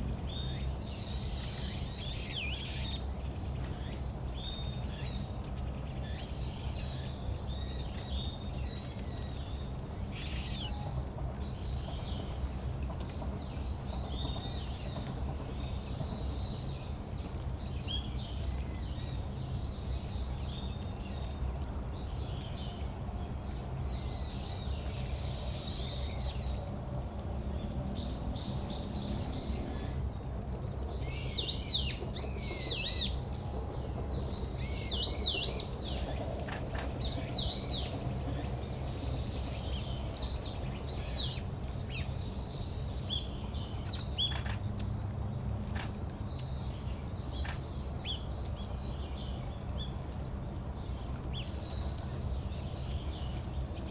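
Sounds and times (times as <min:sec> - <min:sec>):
insect trill: 0:00.1 - 0:53.9.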